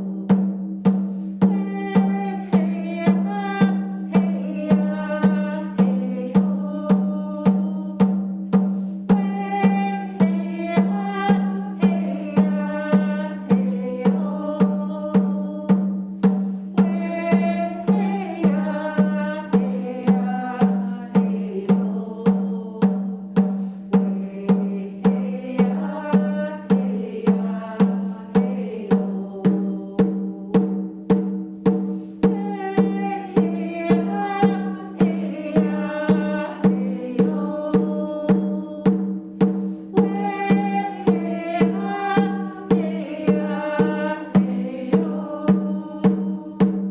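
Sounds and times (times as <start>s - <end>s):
woman singing: 0.0s - 0.5s, 1.4s - 8.2s, 9.1s - 30.8s, 32.2s - 46.9s
steady drum beat: 0.0s - 46.9s.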